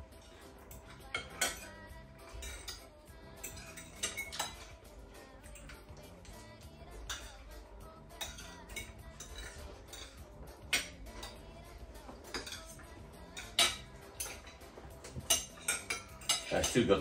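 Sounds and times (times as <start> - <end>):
cutlery clinking on plates: 0.2 - 17.0.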